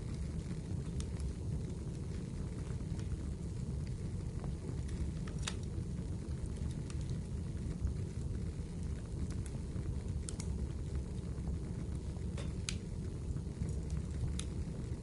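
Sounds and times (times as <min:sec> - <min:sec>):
fire rumbling in fireplace: 0:00.0 - 0:15.0
firewood crackling and popping: 0:00.0 - 0:15.0.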